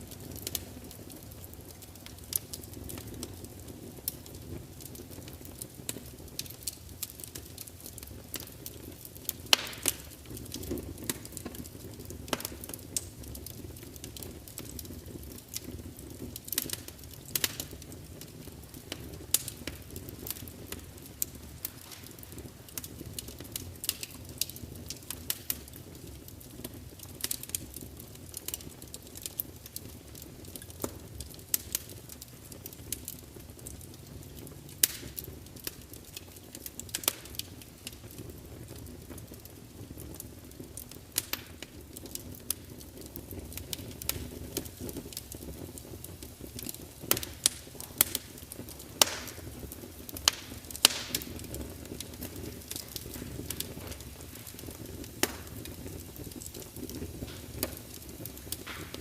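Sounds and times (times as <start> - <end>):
fire flames rumbling: 0.0 - 59.0
wood crackling and popping: 0.0 - 59.0.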